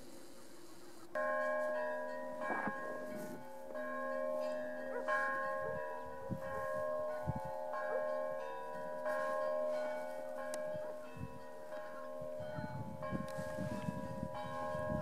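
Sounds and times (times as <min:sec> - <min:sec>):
bells ringing: 0:01.2 - 0:15.0.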